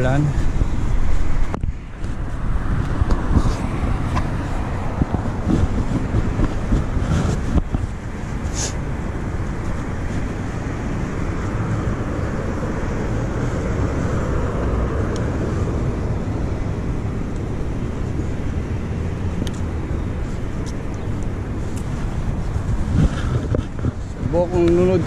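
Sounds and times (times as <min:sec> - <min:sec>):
road noise while cycling: 0:00.0 - 0:25.0
traffic noise: 0:00.0 - 0:25.0
wind rush on microphone: 0:00.0 - 0:25.0.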